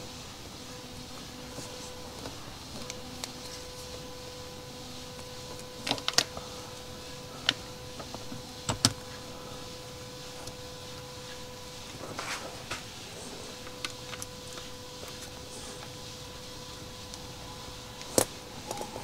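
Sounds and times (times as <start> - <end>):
faint high hum: 0.0 - 19.0.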